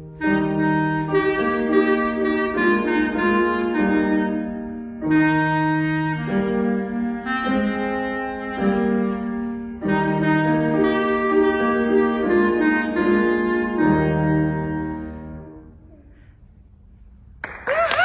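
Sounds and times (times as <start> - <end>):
piano accompaniment: 0.0 - 16.0
solo wind instrument melody: 0.0 - 16.1.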